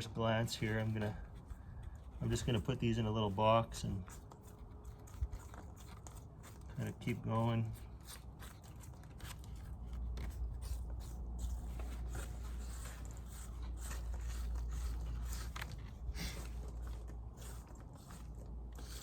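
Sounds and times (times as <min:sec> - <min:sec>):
tools scraping wooden hive: 0:00.0 - 0:19.0.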